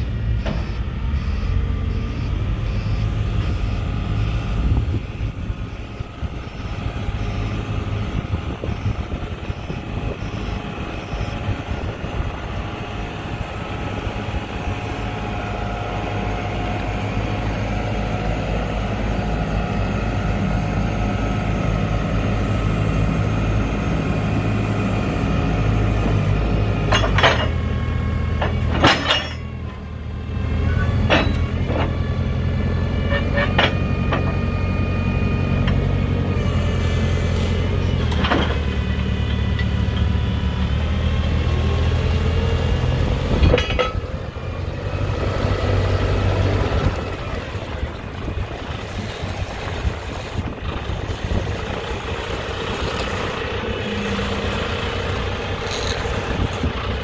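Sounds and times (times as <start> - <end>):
diesel engine running: 0.0 - 57.0
hydraulics whirring: 0.0 - 57.0.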